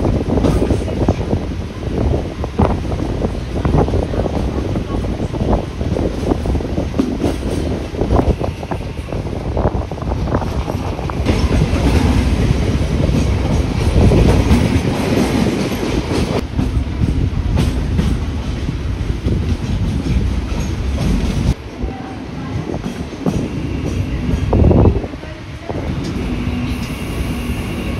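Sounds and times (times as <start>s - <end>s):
electric train rumbling: 0.0s - 27.9s.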